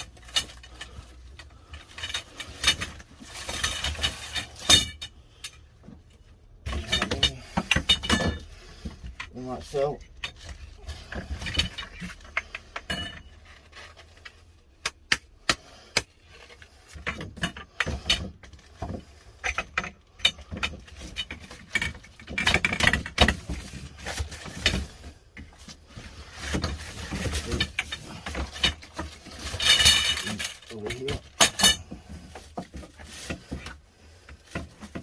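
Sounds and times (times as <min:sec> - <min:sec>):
handling and scraping noise: 0:00.0 - 0:35.0.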